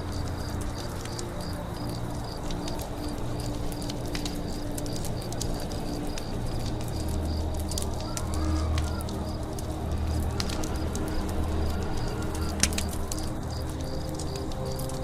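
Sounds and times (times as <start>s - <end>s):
campfire crackling and popping: 0.0s - 15.0s
forest background: 0.0s - 15.0s.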